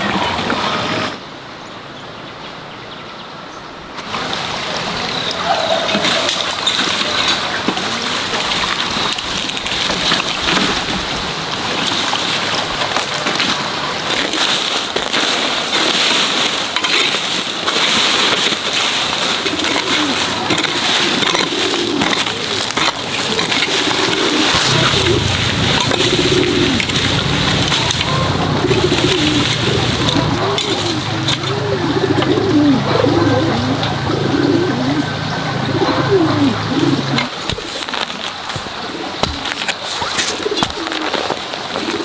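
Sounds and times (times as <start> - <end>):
water running and splashing: 4.0 - 34.0, 36.4 - 42.0.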